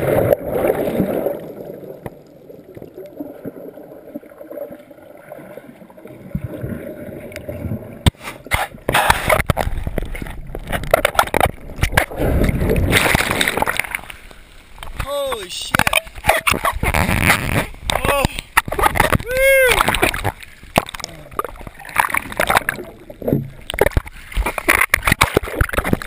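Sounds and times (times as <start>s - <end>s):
underwater gurgling of surf: 0.0s - 26.0s.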